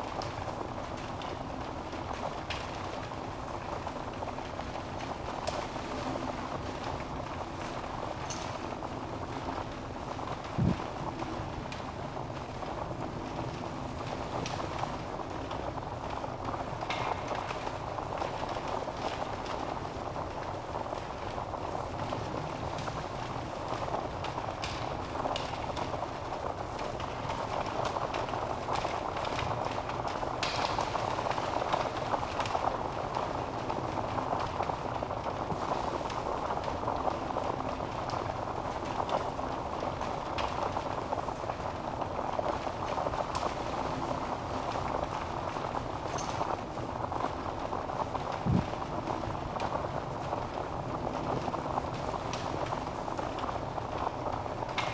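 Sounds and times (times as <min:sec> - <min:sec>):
flames rushing: 0:00.0 - 0:54.9
logs crackling and popping: 0:00.0 - 0:54.9.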